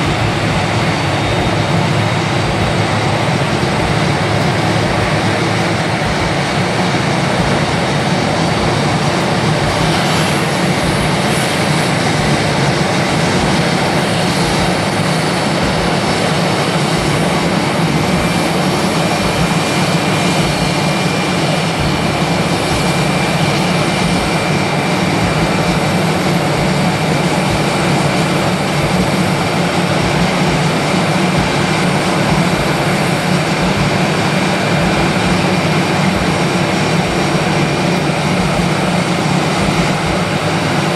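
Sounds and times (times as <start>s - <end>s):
jet engine and air rush: 0.0s - 40.9s
thin steady whine: 0.0s - 40.9s.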